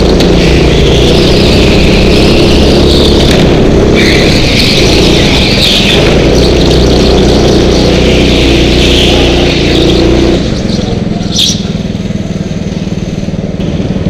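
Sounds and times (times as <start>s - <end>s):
go-kart engine running: 0.0s - 14.0s.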